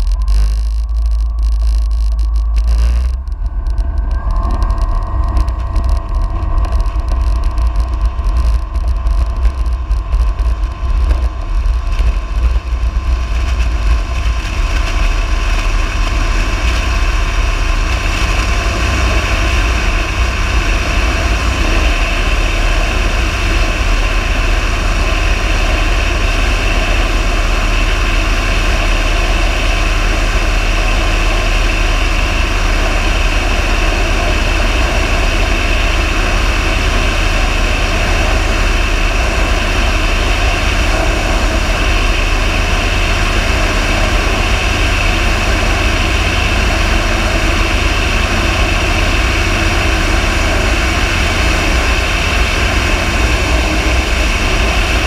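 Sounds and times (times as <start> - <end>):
aircraft engine and propeller drone: 2.6 - 55.0.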